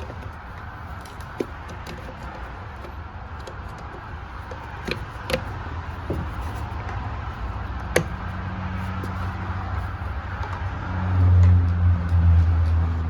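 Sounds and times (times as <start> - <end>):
sharp clicks and knocks: 0.0 - 12.9.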